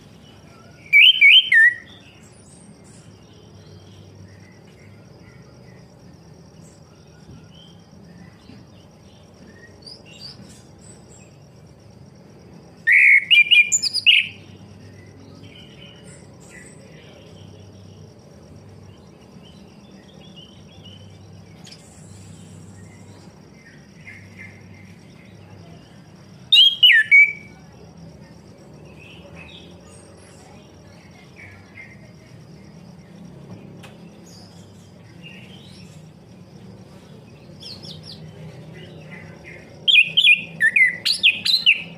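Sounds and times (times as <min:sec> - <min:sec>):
faint bird chirps: 0:00.0 - 0:11.7, 0:12.8 - 0:36.2
high insect trill: 0:00.0 - 0:41.9.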